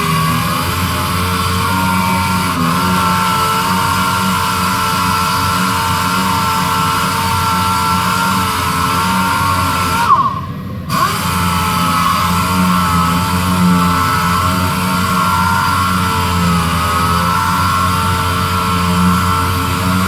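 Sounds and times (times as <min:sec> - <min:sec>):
power sander whining: 0:00.0 - 0:20.0.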